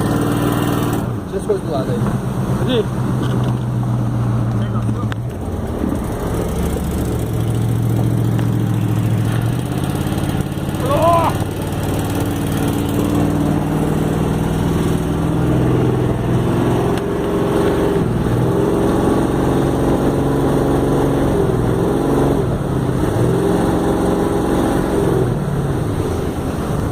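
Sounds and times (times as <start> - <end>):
speedboat engine revving: 0.0 - 26.9.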